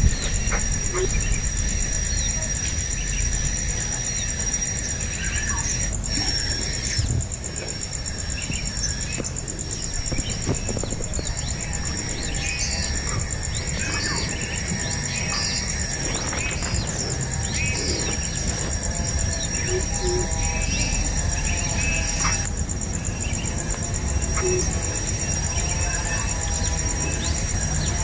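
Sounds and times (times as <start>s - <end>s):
birds chirping: 0.0s - 28.0s
insect trill: 0.0s - 28.0s.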